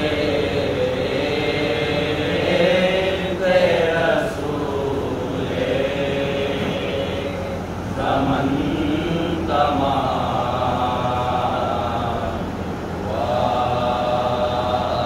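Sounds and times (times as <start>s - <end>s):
men chanting together: 0.0s - 12.5s, 13.1s - 15.0s.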